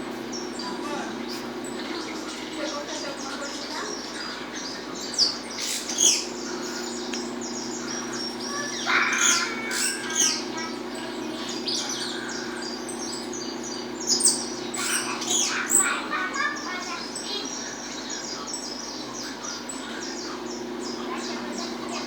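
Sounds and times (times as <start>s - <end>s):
finch singing sharp trills: 0.0s - 22.0s
steady low hum: 0.0s - 22.0s.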